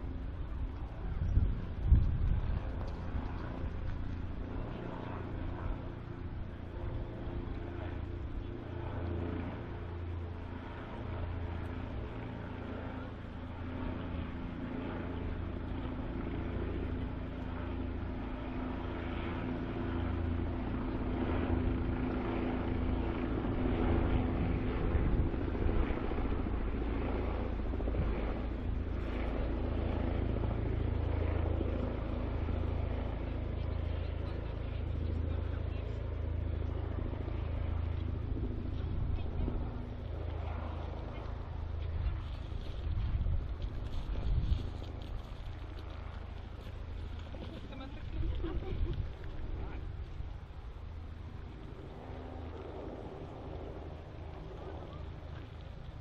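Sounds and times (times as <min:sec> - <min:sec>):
low hum and rumble: 0:00.0 - 0:56.0.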